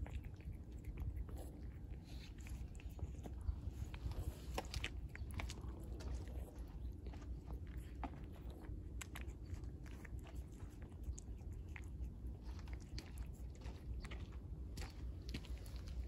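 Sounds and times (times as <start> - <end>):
cat chewing and lapping: 0.0 - 16.0
low steady rumble: 0.0 - 16.0.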